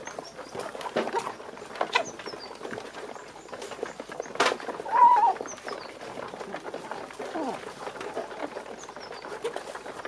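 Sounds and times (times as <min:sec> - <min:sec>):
chickens pecking at feed: 0:00.0 - 0:10.0.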